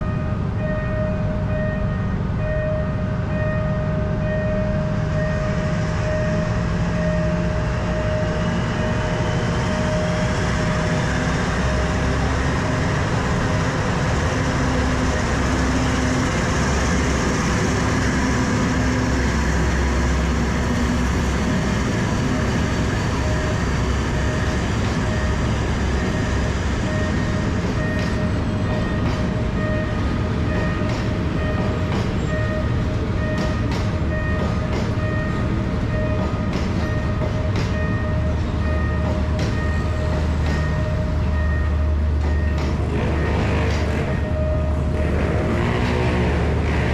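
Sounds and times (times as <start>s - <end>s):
crossing warning signal ringing: 0.0s - 46.8s
train rumbling: 0.0s - 46.9s.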